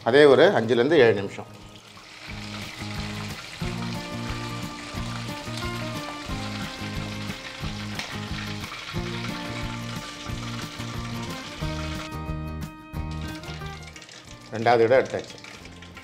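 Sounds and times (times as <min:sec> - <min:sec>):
chicken sizzling in hot oil: 0:01.6 - 0:16.0.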